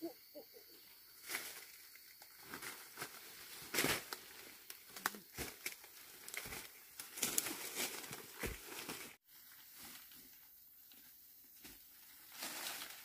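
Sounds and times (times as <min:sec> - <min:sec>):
rustling and crinkling: 0:01.2 - 0:10.4, 0:11.6 - 0:13.0.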